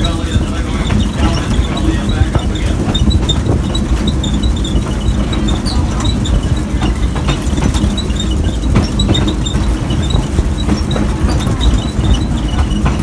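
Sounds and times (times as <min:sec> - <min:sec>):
faint high wheel squeaks: 0:00.0 - 0:13.0
train rumbling on track: 0:00.0 - 0:13.0.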